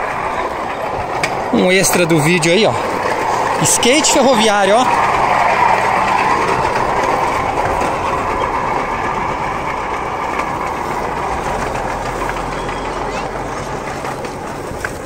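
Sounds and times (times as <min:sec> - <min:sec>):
rail bike wheels rolling on track: 0:00.0 - 0:15.0.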